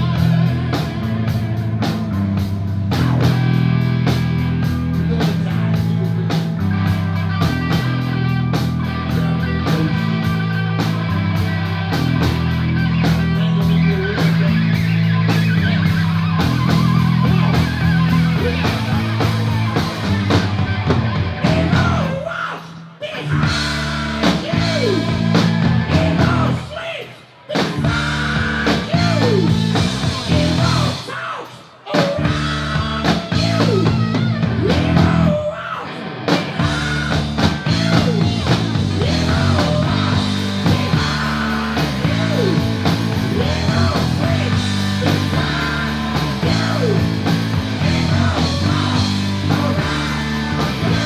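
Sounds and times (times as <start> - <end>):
rock band playing: 0.0 - 51.0.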